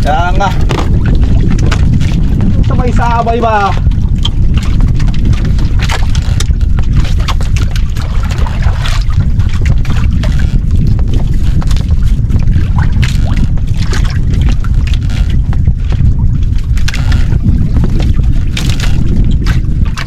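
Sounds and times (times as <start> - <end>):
splashing water: 0.0 - 20.0
wind buffeting microphone: 0.0 - 20.0.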